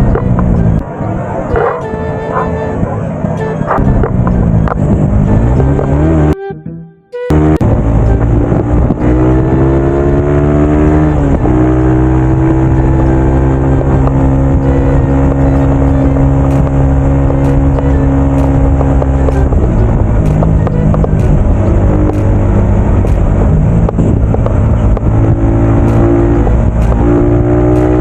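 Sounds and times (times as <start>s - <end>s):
motorcycle engine accelerating: 0.0s - 6.5s, 7.3s - 28.0s.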